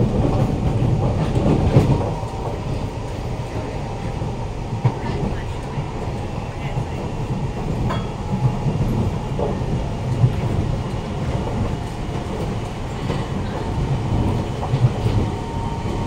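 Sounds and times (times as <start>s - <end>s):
train wheels rumbling inside carriage: 0.0s - 16.0s.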